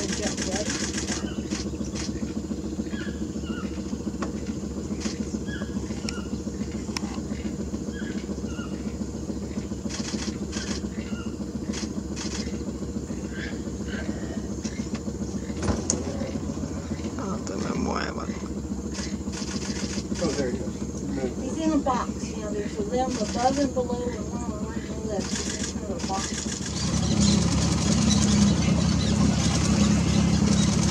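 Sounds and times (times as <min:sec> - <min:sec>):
boat motor running: 0:00.0 - 0:30.9.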